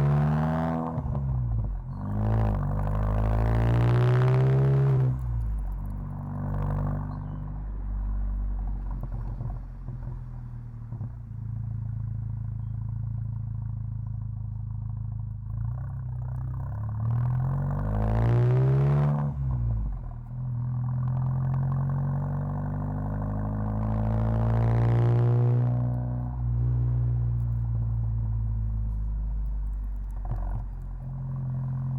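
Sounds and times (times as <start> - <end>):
car exhaust drone and revving: 0.0 - 31.9.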